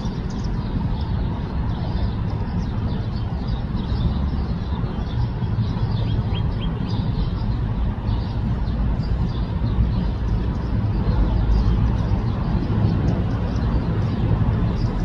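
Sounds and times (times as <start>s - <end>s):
bird chirps: 0.0s - 15.0s
low outdoor rumble: 0.0s - 15.0s.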